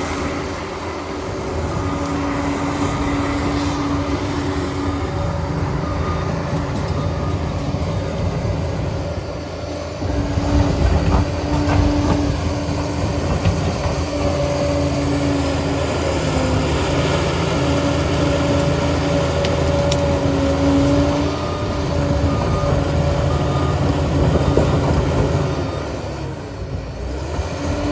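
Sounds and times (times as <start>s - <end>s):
wavering machine whine: 0.0s - 26.5s
crawler dozer engine drone: 0.0s - 27.9s.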